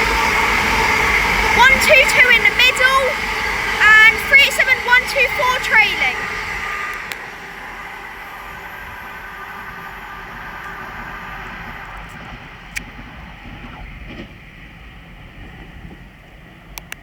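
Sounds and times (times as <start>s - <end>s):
faint train whine: 0.0s - 17.0s
train wheels on rails: 0.0s - 17.0s.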